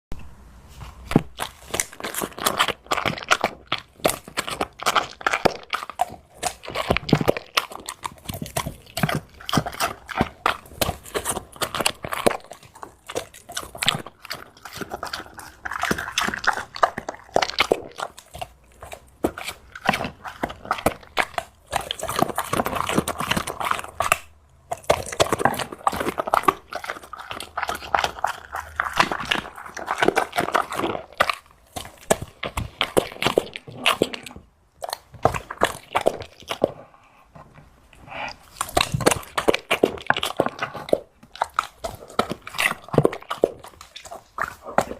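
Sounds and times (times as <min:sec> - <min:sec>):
dog chewing and crunching: 0:00.8 - 0:44.9.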